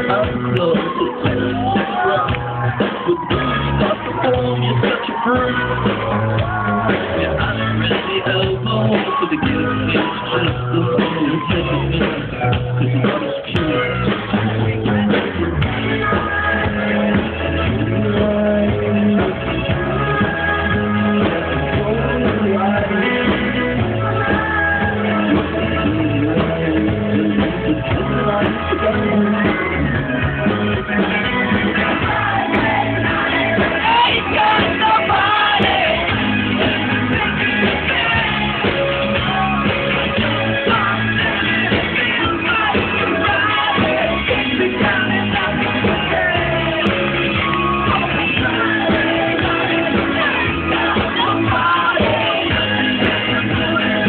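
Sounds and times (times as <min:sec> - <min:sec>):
lead vocal singing: 0:00.0 - 0:54.0
live rock band playing: 0:00.0 - 0:54.0.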